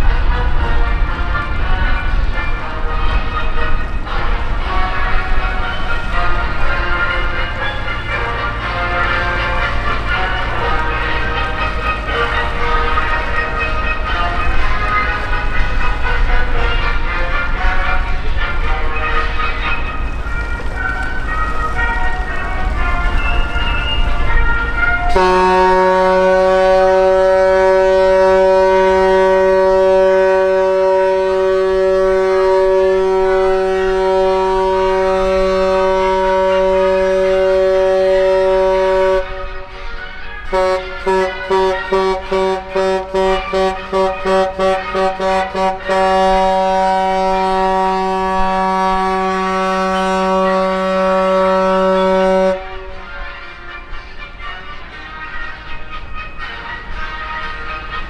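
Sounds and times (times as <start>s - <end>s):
ship horn blasts: 0.0s - 58.0s.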